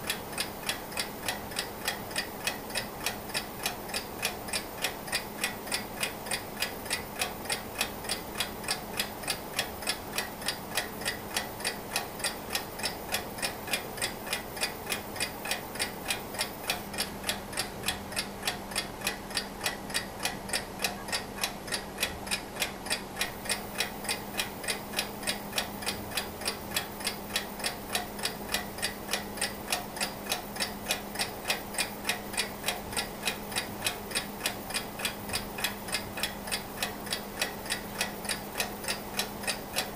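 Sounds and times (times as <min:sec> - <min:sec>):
alarm clock ticking: 0:00.0 - 0:39.9.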